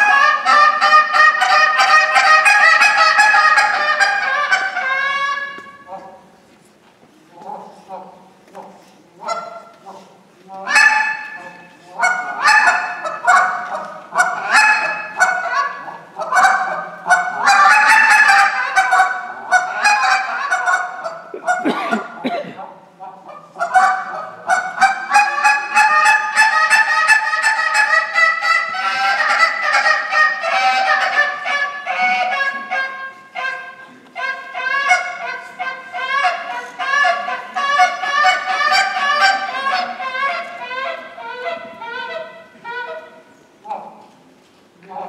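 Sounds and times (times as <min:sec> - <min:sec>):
goose call honks and clucks: 0:00.0 - 0:06.2, 0:07.4 - 0:43.9.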